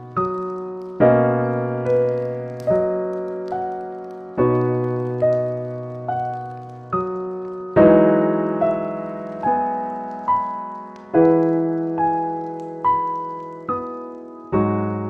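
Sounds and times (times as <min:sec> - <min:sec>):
slow gentle solo piano: 0:00.0 - 0:15.0.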